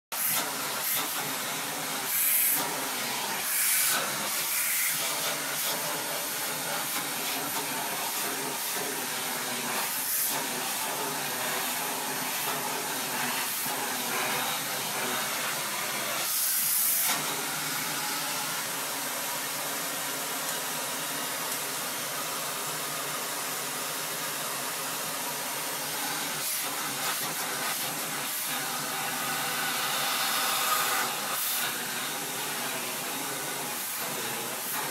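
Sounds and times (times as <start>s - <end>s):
vacuum cleaner running: 0.1s - 34.9s.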